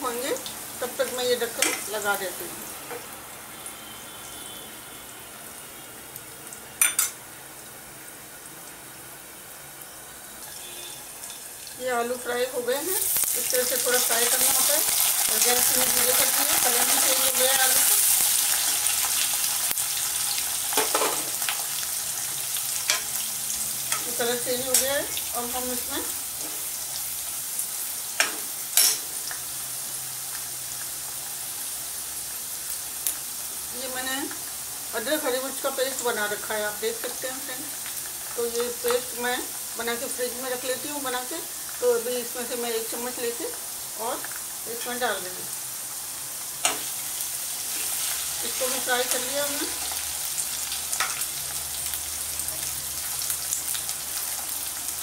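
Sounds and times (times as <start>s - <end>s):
potatoes sizzling in oil: 0.0s - 55.0s.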